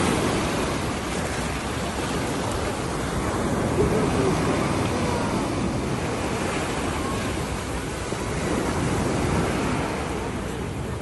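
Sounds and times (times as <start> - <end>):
sea waves washing up beach: 0.0 - 11.0.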